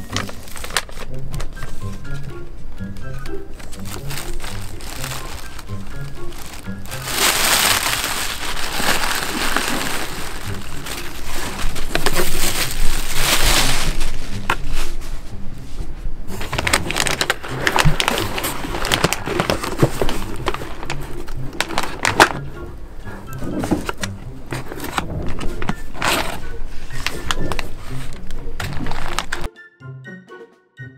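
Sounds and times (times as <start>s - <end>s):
plastic packing crinkling: 0.0s - 1.7s, 3.6s - 15.1s, 16.3s - 22.4s, 23.3s - 26.4s, 27.0s - 29.5s
foil pouch and tin crackling: 0.0s - 2.0s, 3.6s - 15.1s, 16.3s - 22.5s, 23.3s - 29.5s.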